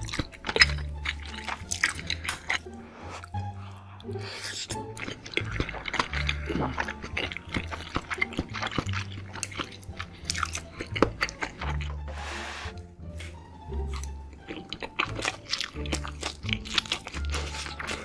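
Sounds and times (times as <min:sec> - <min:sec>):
wet mouth clicks and smacks: 0:00.0 - 0:02.8, 0:04.1 - 0:11.9, 0:14.0 - 0:18.0
background music with low notes: 0:00.0 - 0:18.0
noodles slurped and chewed: 0:00.0 - 0:18.0.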